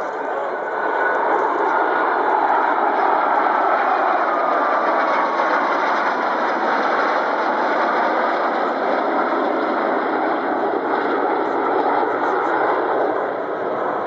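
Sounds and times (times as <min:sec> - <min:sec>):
jet engine rushing: 0:00.0 - 0:14.0.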